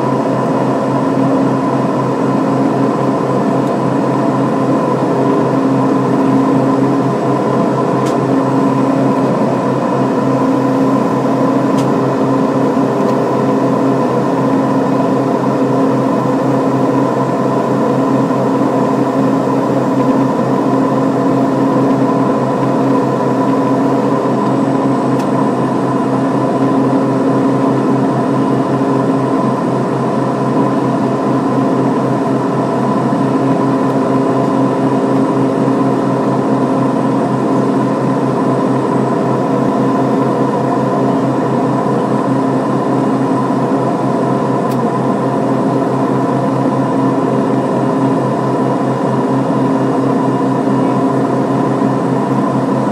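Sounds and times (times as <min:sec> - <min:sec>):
turboprop engines droning: 0:00.0 - 0:52.9.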